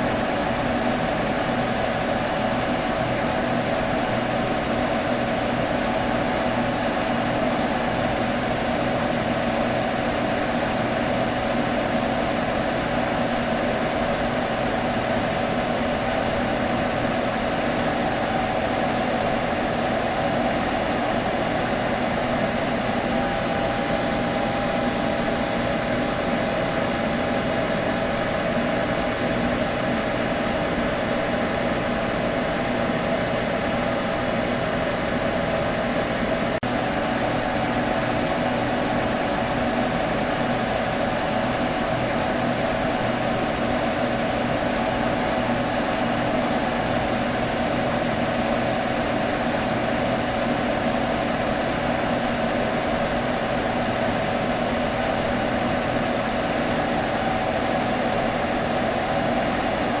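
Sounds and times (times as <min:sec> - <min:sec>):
computer fans humming: 0:00.0 - 1:00.0.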